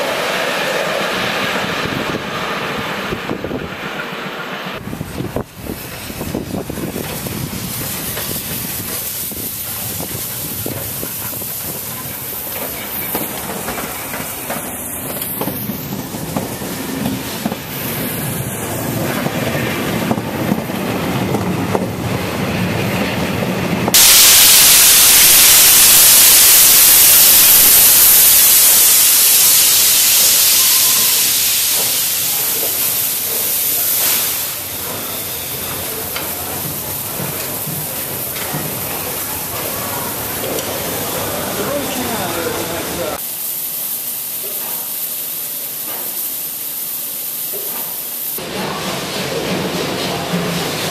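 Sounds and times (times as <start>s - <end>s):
loud steam hiss: 0.0s - 50.9s
steam train rolling past: 0.0s - 50.9s.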